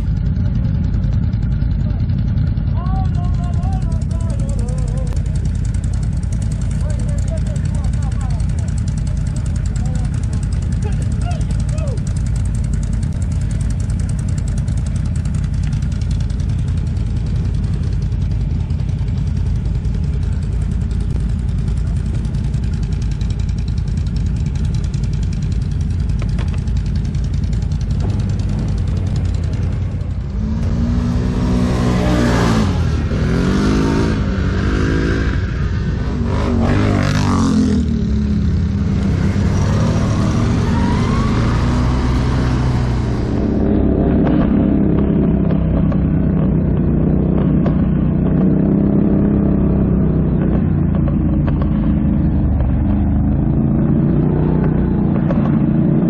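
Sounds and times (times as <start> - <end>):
atv engine running and revving: 0.0 - 56.0.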